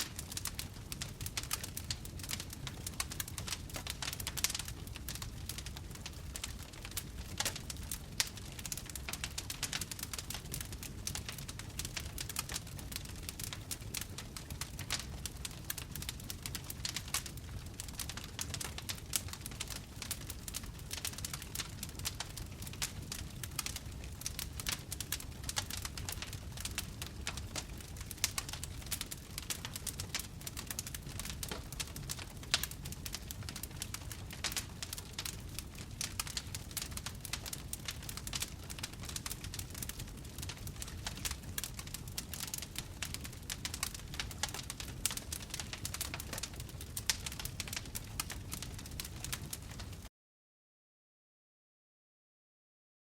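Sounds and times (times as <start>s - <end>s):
fire crackling and popping: 0.0s - 50.1s
low rumble of burning: 0.0s - 50.1s.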